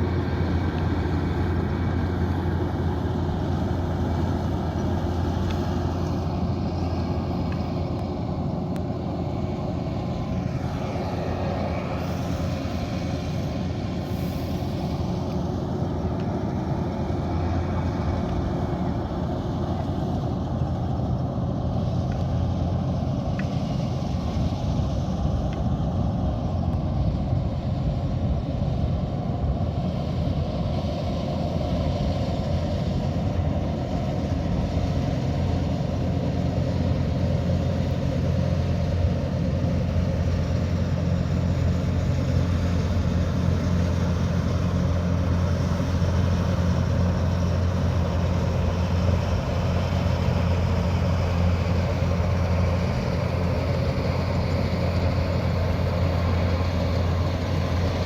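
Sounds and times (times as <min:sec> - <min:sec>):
combine harvester diesel engine drone: 0:00.0 - 0:58.0.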